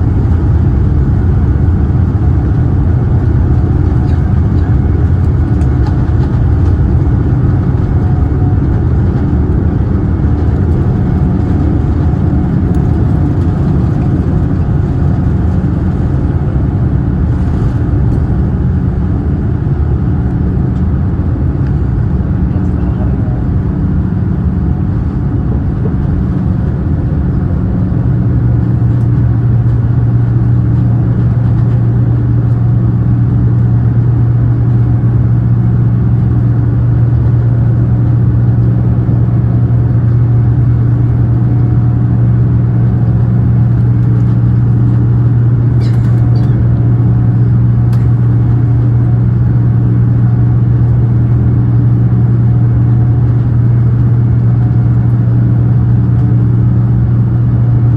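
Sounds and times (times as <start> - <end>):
airliner engine and airflow drone: 0.0 - 57.9.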